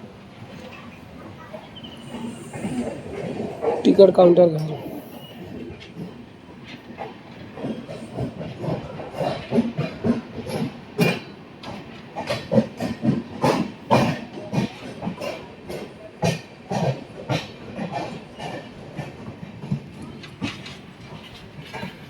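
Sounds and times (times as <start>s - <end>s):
train wheels clacking over rail joints: 1.6s - 22.0s.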